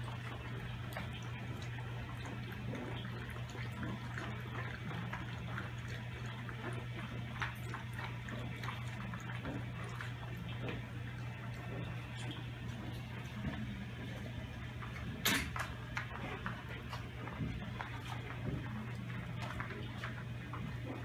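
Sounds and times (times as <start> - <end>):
dog paws clicking and tapping: 0.8 - 14.2, 14.8 - 21.0.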